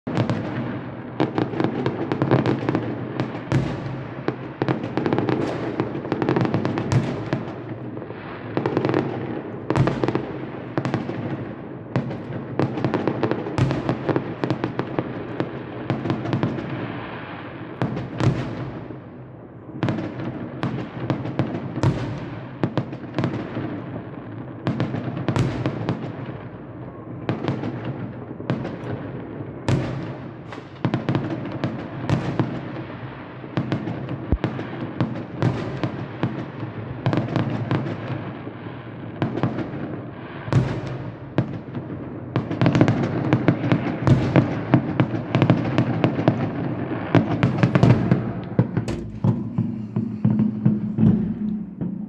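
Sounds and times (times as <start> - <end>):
fireworks bangs and crackling: 0.1 - 52.0.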